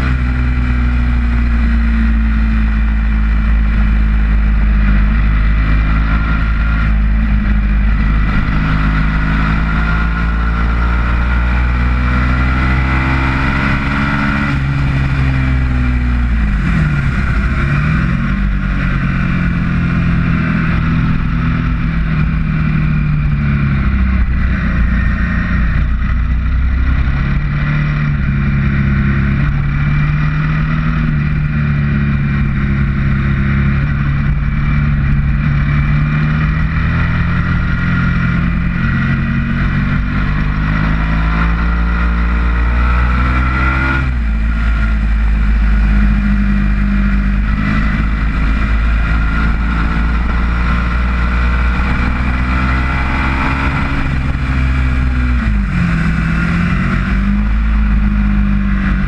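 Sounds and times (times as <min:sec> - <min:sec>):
motorcycle engine revving: 0:00.0 - 0:59.0
wind rush on microphone: 0:00.0 - 0:59.0.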